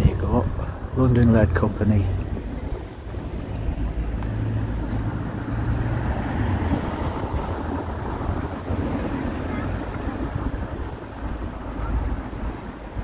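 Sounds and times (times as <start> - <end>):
noisy wash: 0.0 - 13.0
vehicle engine rumble: 0.0 - 13.0.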